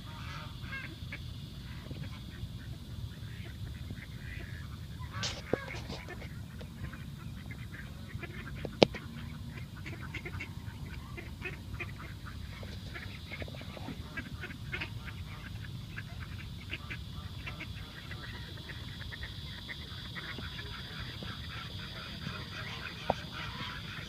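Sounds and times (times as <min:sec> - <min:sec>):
ducks and waterfowl calling: 0:00.0 - 0:24.0.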